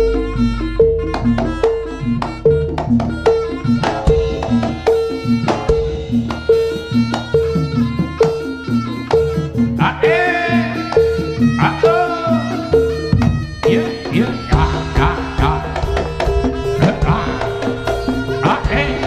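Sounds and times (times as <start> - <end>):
metal percussion and drums: 0.0 - 19.0
wavering reed wind instrument: 0.0 - 19.0.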